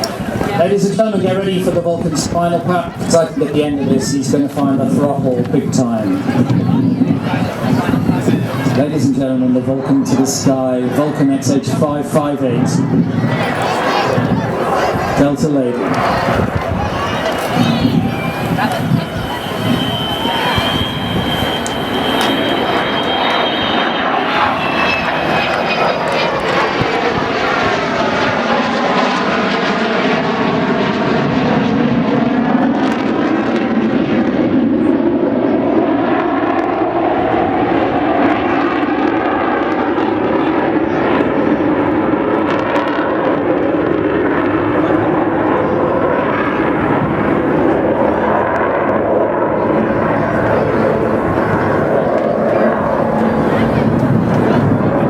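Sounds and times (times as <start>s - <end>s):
jet aircraft roar passing: 0.0s - 55.0s.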